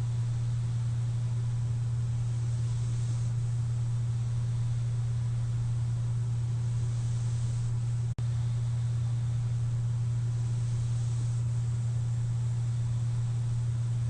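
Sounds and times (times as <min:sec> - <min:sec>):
air hissing: 0:00.0 - 0:14.0
machine humming: 0:00.0 - 0:14.0.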